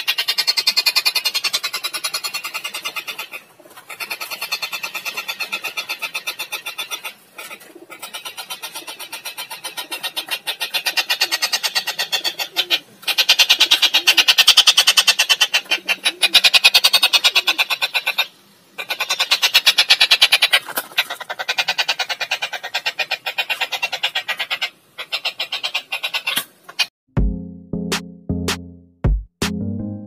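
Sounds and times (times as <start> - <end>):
songbird rapid trill: 0.0 - 26.9.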